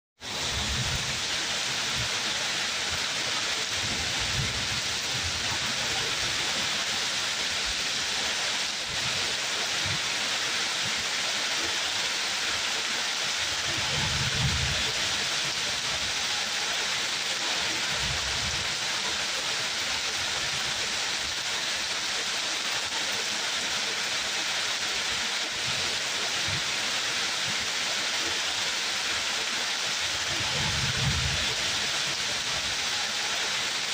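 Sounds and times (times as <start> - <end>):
heavy rainfall: 0.2 - 33.9.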